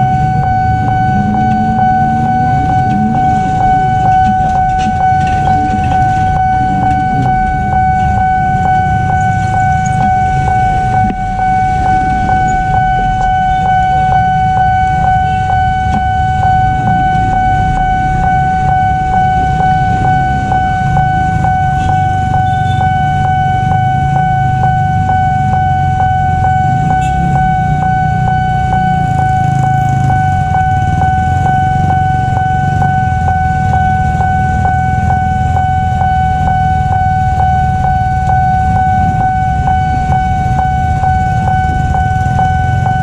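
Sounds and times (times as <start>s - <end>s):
level crossing bell ringing: 0.0s - 43.0s
vehicle engines rumbling: 0.0s - 43.0s.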